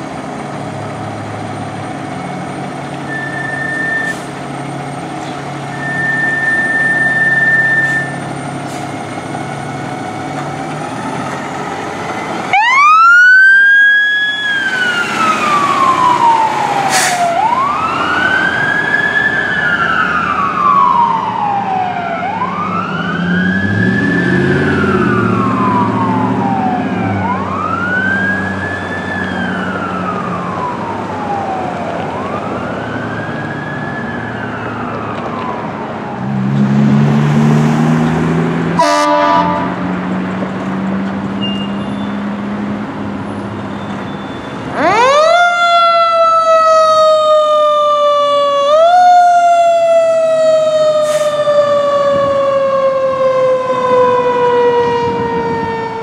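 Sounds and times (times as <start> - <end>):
fire engine running: 0.0 - 56.0
siren wailing: 1.6 - 36.9, 38.8 - 39.9, 43.7 - 56.0.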